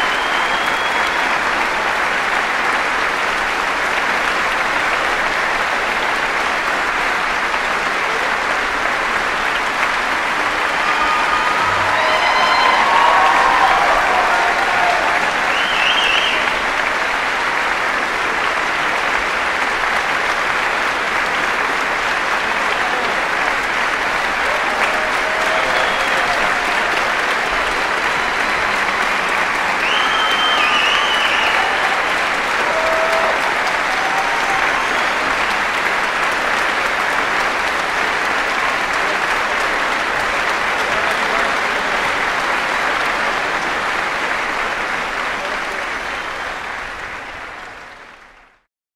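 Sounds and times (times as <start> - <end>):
audience applauding: 0.0 - 48.7.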